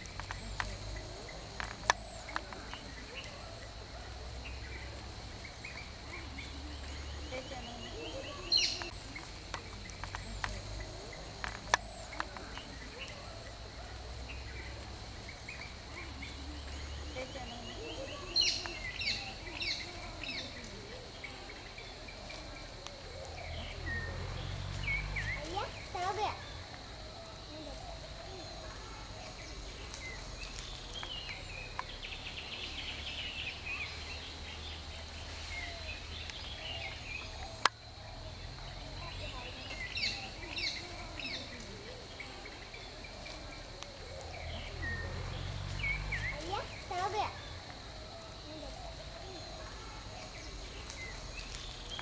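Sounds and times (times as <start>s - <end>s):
bird chirps: 0.0s - 52.0s.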